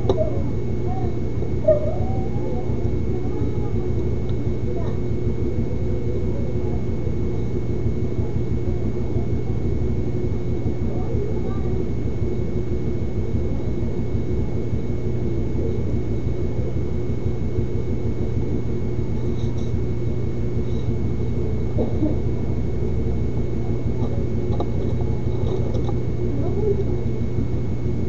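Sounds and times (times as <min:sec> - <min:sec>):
faint high whine: 0:00.0 - 0:28.0
low hum and rumble: 0:00.0 - 0:28.0.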